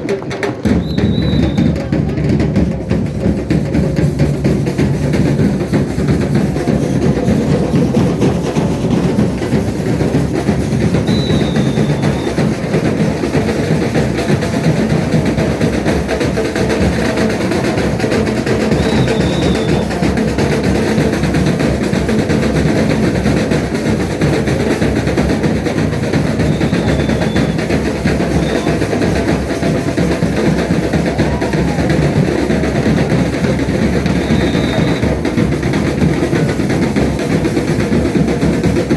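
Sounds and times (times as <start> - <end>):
percussion band drumming: 0.0 - 38.9.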